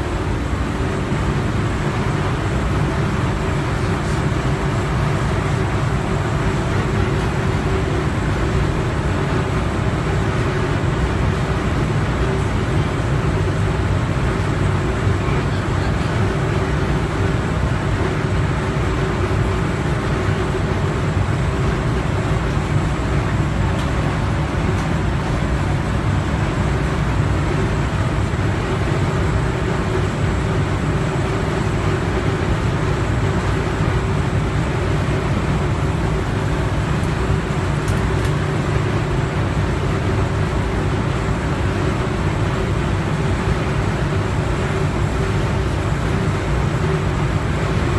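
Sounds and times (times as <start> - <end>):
refrigeration machinery running: 0.0 - 47.9.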